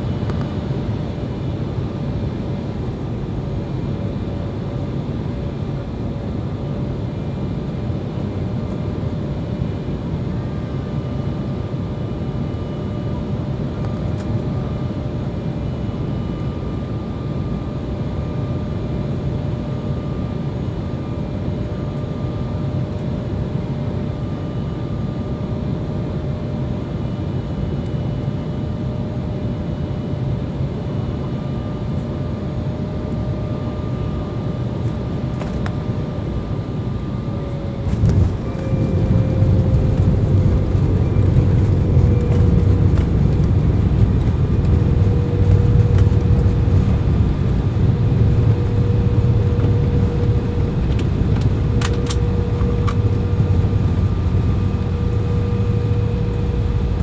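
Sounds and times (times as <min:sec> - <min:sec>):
jet engine drone with whine: 0:00.0 - 0:57.0
jet rolling along runway rumble: 0:00.0 - 0:57.0.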